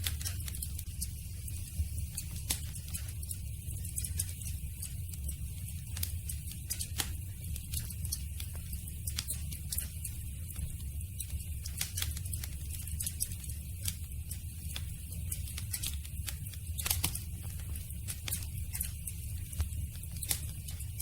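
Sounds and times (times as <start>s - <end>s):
campfire crackling and popping: 0.0s - 21.0s
steady low rumble: 0.0s - 21.0s.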